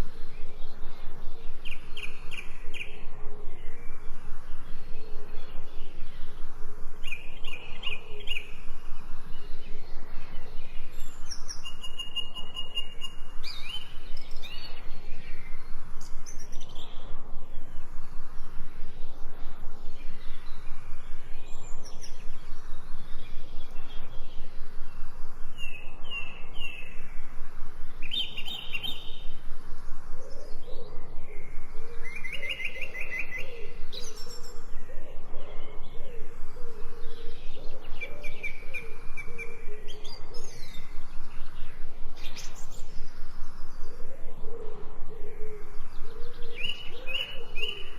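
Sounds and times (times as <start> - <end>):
low cooing call: 0.0 - 11.0, 11.7 - 47.9
songbirds chirping and trilling: 0.0 - 47.9.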